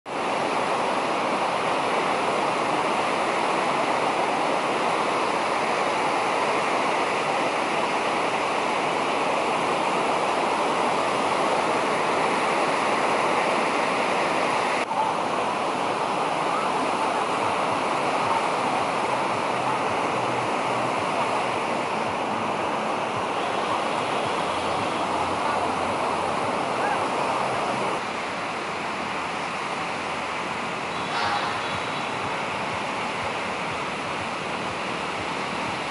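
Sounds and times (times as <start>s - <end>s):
sea surf breaking: 0.1s - 35.9s.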